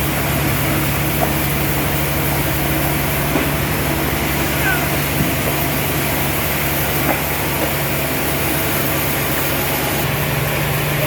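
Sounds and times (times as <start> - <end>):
sawmill machinery droning: 0.0 - 11.0.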